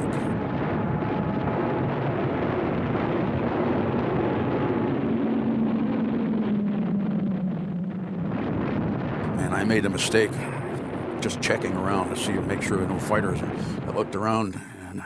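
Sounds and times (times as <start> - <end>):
battle soundtrack rumble: 0.0 - 14.6
piston aircraft engines droning: 0.0 - 15.0.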